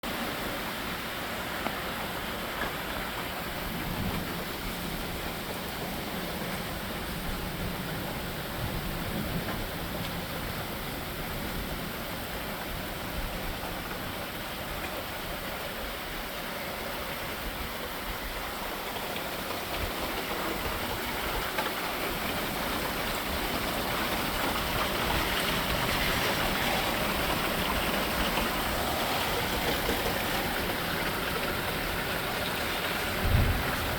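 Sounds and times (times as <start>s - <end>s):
rain falling steadily: 0.0s - 33.9s.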